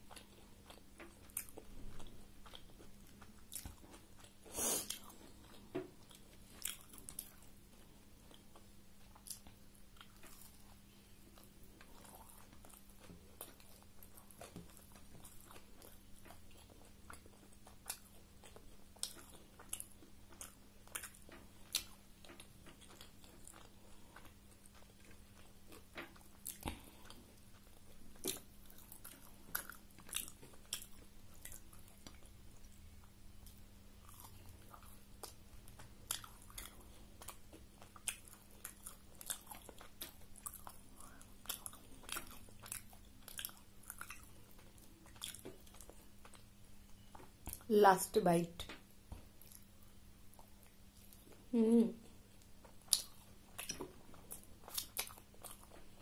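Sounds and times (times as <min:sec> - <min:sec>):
person chewing: 0:00.0 - 0:47.7, 0:48.7 - 0:56.0
faint low hum: 0:00.0 - 0:56.0.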